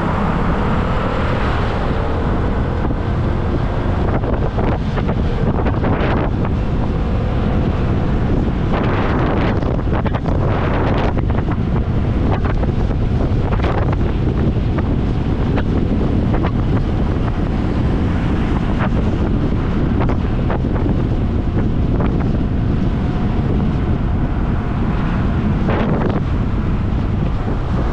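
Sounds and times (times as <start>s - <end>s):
road and engine noise: 0.0s - 27.9s
wind buffeting microphone: 0.0s - 27.9s.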